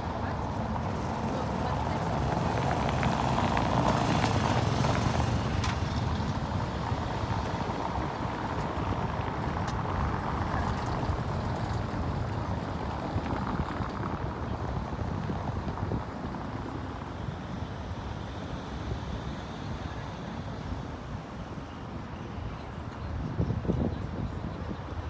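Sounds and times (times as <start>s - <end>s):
passing cars rumble: 0.0s - 25.0s.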